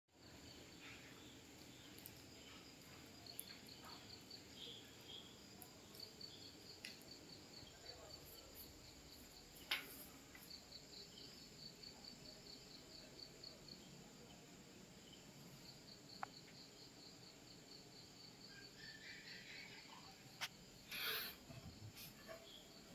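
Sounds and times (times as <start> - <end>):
faint insect chirping: 0.2 - 22.9.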